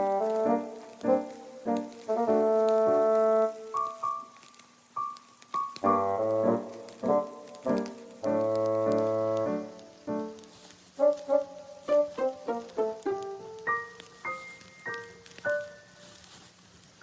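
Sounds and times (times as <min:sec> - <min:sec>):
keyboard music: 0:00.0 - 0:04.4, 0:05.0 - 0:10.4, 0:11.0 - 0:15.9.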